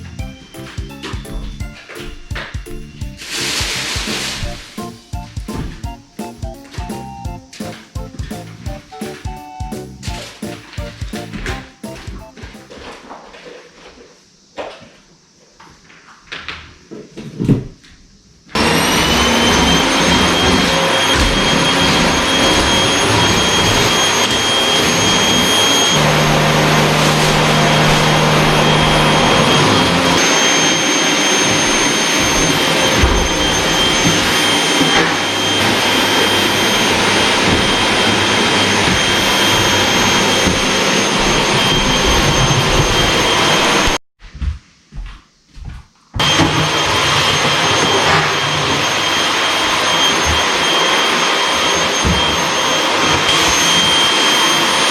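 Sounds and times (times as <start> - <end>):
vacuum cleaner running: 0.0 - 14.8, 18.4 - 44.0, 46.2 - 54.9.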